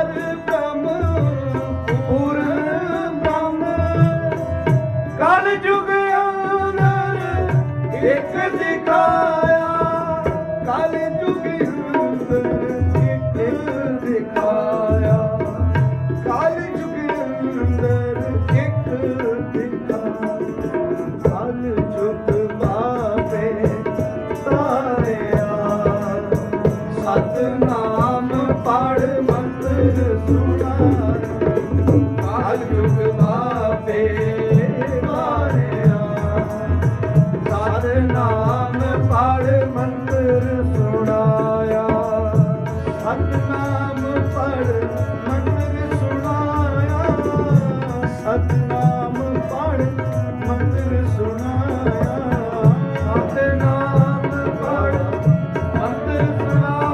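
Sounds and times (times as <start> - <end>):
harmonium: 0.0 - 56.9
tabla rhythm: 0.0 - 56.9.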